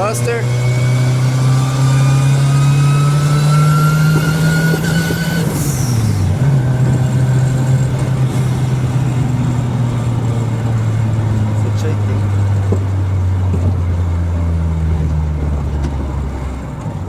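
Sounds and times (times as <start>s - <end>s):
car engine accelerating: 0.0s - 17.0s
gearbox whine: 0.0s - 17.0s.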